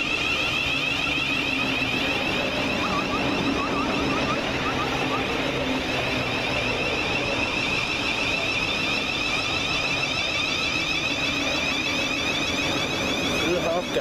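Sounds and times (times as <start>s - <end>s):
high wavering whine: 0.0s - 14.0s.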